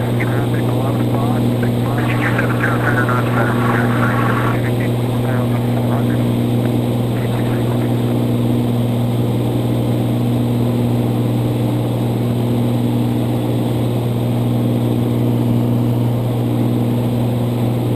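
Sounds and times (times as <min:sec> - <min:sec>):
propeller plane engine droning: 0:00.0 - 0:17.9.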